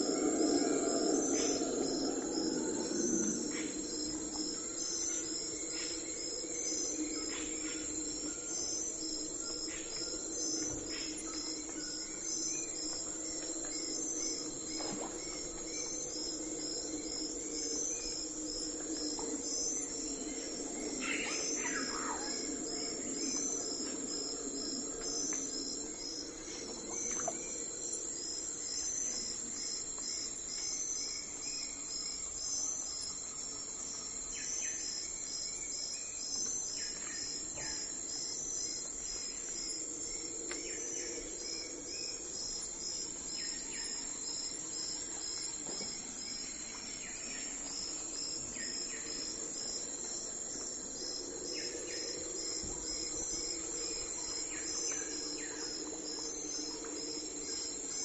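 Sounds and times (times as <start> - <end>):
continuous high whine: 0.0 - 58.0
insects chirping: 0.0 - 58.0.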